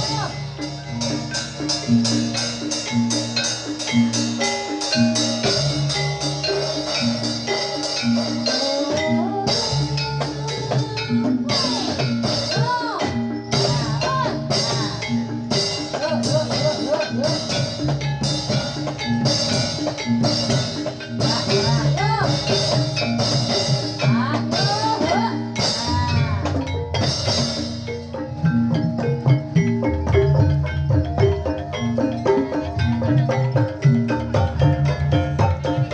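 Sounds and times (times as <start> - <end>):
gliding melody line: 0.0 - 35.9
metallophones ringing melody: 0.0 - 35.9.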